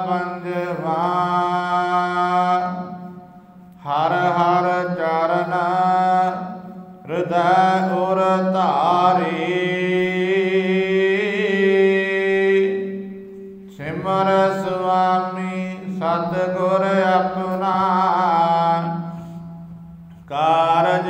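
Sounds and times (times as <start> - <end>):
man chanting melodically: 0.0 - 21.0
steady low drone: 0.0 - 21.0.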